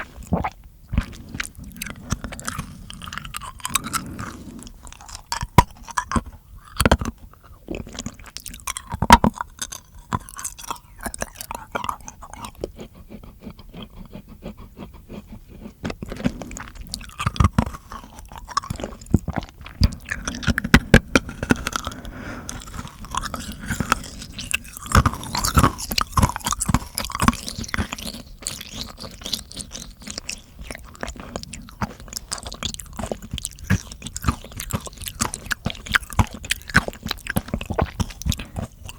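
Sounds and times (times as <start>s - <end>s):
chewing-like crunches: 0.0s - 38.9s
wet mouth clicks and smacks: 0.0s - 38.9s.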